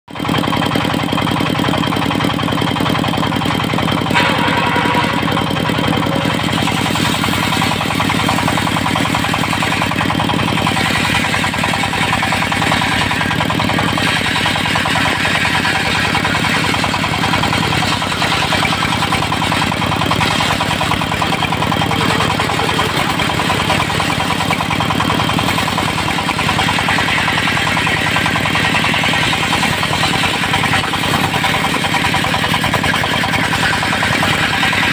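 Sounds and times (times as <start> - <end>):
diesel engine running under load: 0.1 - 34.9
circular saw cutting wood: 1.2 - 34.9.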